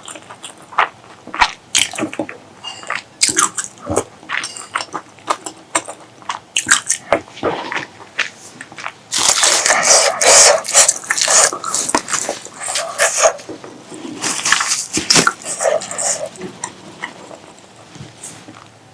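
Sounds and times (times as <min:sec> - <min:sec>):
wet chewing and slurping: 0:00.0 - 0:17.8.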